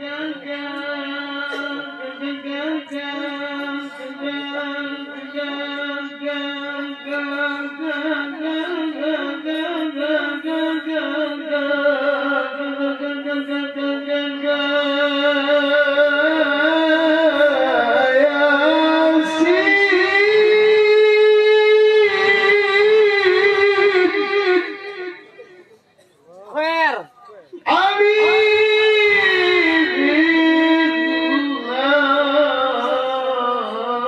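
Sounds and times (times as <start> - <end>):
man reciting melodically: 0.0 - 25.7, 26.8 - 34.0.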